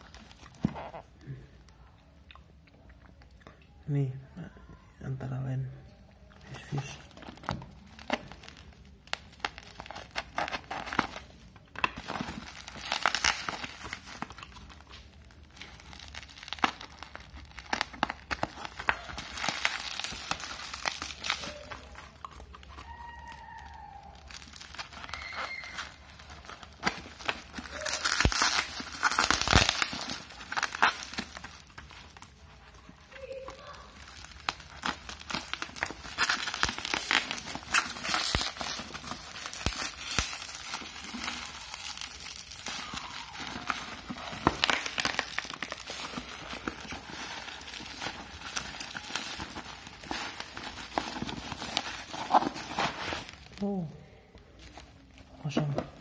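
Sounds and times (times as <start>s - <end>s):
plastic wrapping crinkling and tearing: 0.0s - 3.3s, 5.4s - 56.0s.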